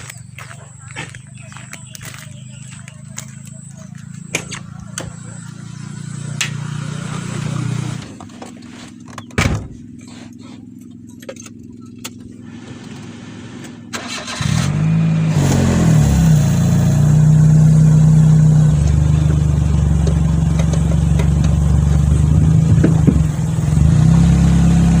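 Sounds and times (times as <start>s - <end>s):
vehicle engine starting and running: 0.0s - 25.0s.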